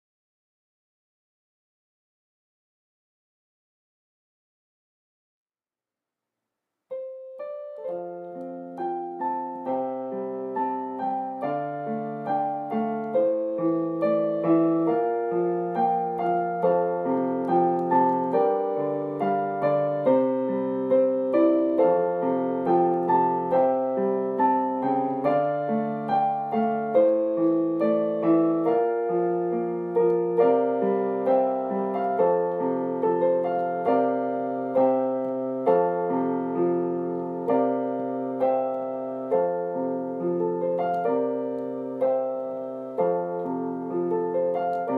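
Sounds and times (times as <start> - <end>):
gentle solo piano melody: 6.9 - 44.9.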